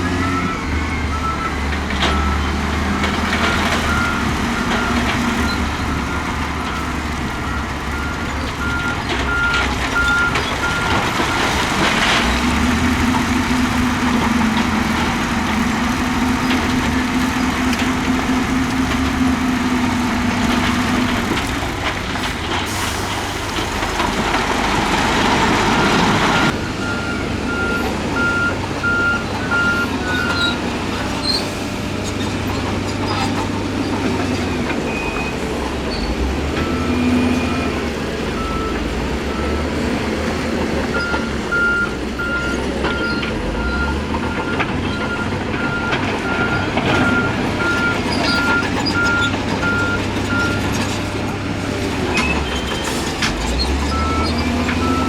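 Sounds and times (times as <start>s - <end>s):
diesel machinery rushing noise: 0.0s - 55.0s.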